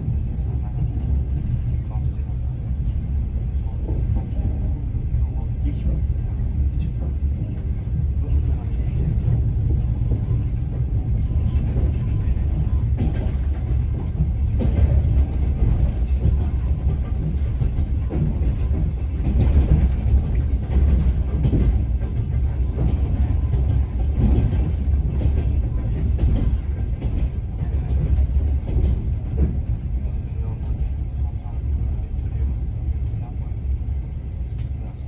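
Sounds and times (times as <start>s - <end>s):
train deep rumble: 0.0s - 35.0s.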